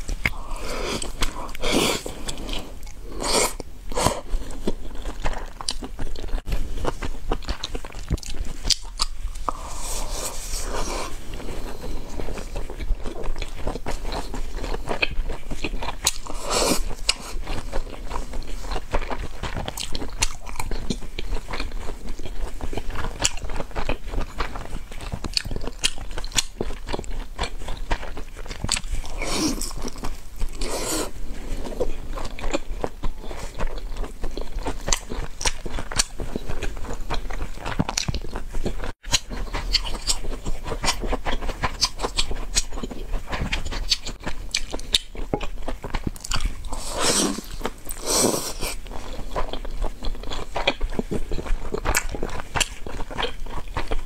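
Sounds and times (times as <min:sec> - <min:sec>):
chewing with mouth clicks: 0:00.0 - 0:54.0.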